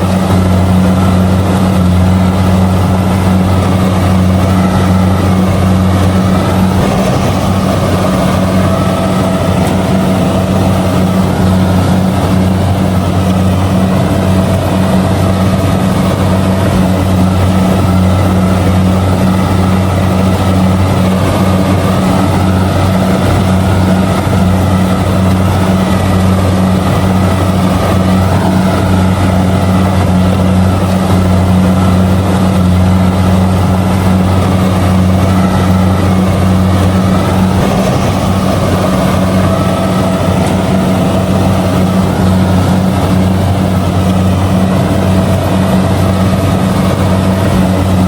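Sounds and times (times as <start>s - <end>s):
combine harvester diesel engine: 0.0s - 48.0s.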